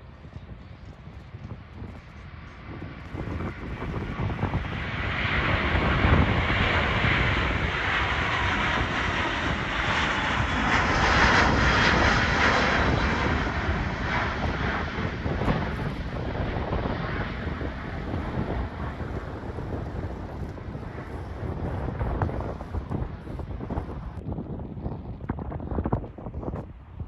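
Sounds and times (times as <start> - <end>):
airliner engines roaring: 0.0 - 27.0.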